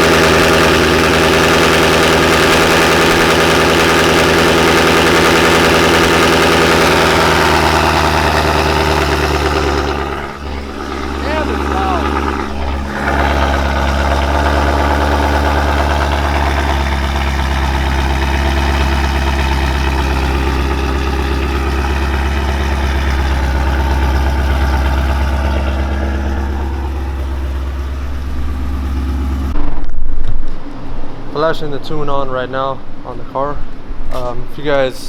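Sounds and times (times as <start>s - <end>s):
car engine idling: 0.0s - 29.6s.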